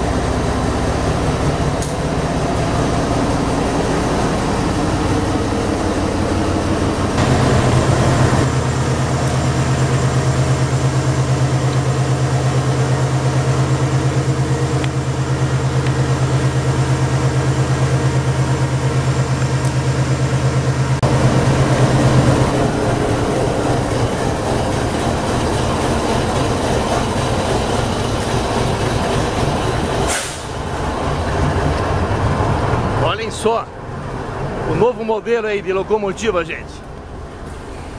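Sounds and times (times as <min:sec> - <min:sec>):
locomotive engine hum: 0:00.0 - 0:37.9
rough locomotive rumble: 0:00.0 - 0:37.9.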